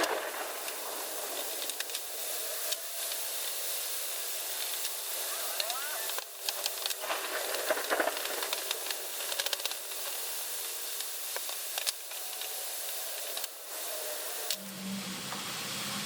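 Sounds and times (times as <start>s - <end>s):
heavy rain drumming on roof: 0.0s - 16.0s.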